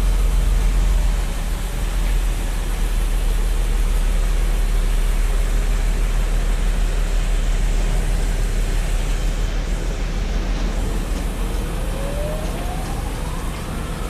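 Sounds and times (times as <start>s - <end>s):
heavy diesel engines rumbling: 0.0s - 14.0s.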